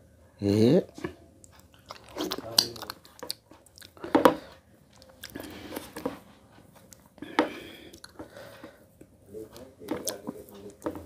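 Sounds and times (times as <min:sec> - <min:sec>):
person chewing: 0:00.9 - 0:11.0.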